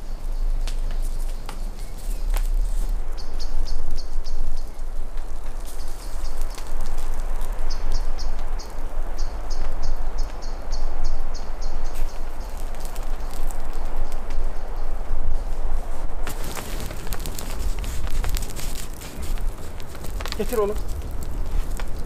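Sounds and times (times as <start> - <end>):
campfire crackling: 0.0 - 22.0
steady rain hiss: 0.0 - 22.0.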